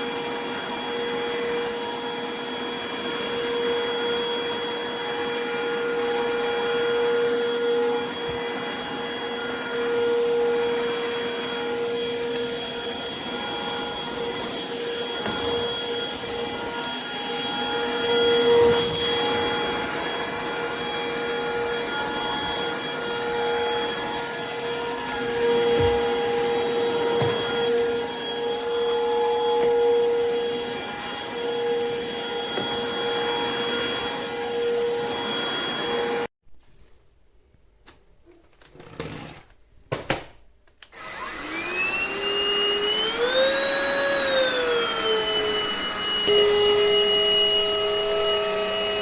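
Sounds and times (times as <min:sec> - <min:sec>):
stick vacuum motor whine: 0:00.0 - 0:36.3, 0:40.8 - 0:49.0.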